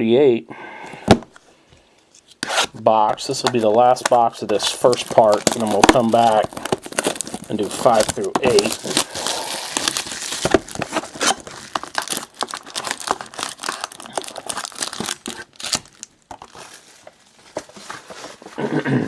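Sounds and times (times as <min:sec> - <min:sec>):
plastic packaging crinkling and tearing: 0:03.2 - 0:18.5.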